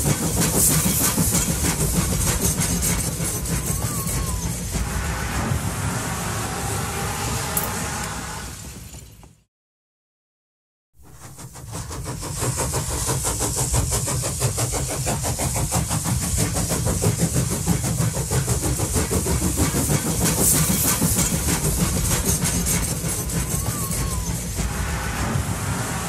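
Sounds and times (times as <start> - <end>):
model train rumbling and clattering: 0.0 - 6.4, 11.0 - 26.0.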